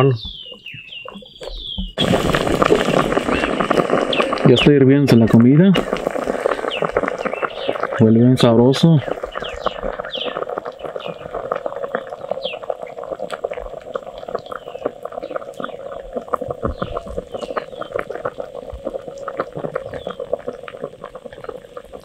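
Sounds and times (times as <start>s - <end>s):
broth boiling with small pops: 0.2s - 22.0s.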